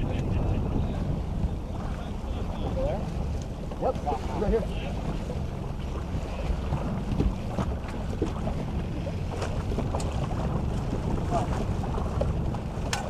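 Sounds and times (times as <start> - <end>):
boat engine rumble: 0.0 - 13.0
wind buffeting microphone: 0.0 - 13.0.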